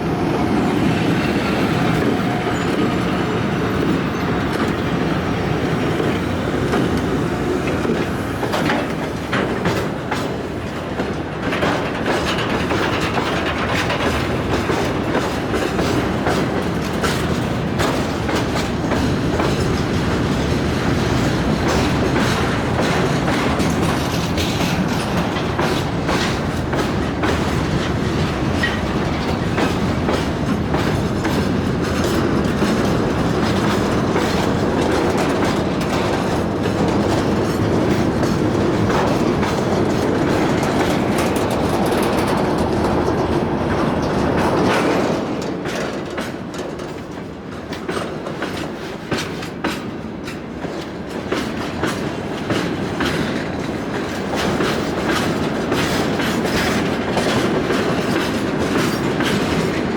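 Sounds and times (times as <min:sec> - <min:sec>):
train wheels clattering over rail joints: 0:00.1 - 0:59.9.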